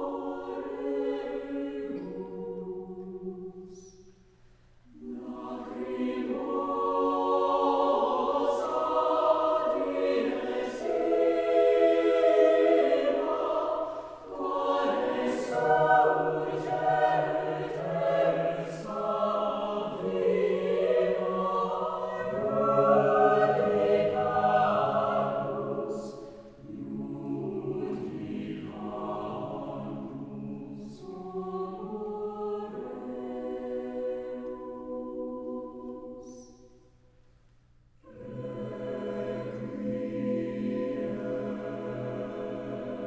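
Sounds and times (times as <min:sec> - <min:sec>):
choir singing unaccompanied: 0:00.0 - 0:04.0, 0:04.9 - 0:36.8, 0:38.0 - 0:43.0.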